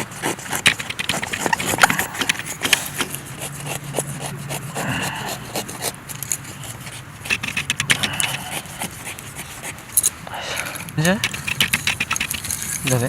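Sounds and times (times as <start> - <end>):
scraping and rasping wood: 0.0 - 13.0.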